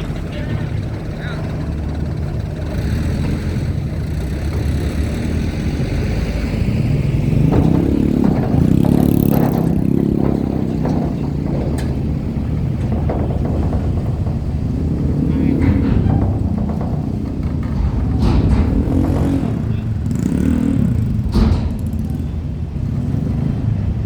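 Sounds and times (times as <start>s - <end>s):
clattering knocks: 0.0s - 24.0s
vehicle engine running: 0.0s - 24.0s.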